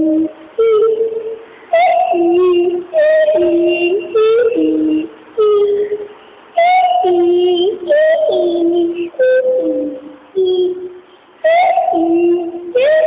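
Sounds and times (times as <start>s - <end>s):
high voice singing held notes: 0.0s - 13.0s.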